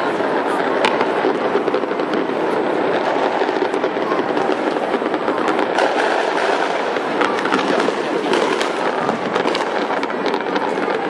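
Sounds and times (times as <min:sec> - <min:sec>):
fireworks bangs and crackling: 0:00.0 - 0:11.0
sharp firework pops: 0:00.0 - 0:11.0.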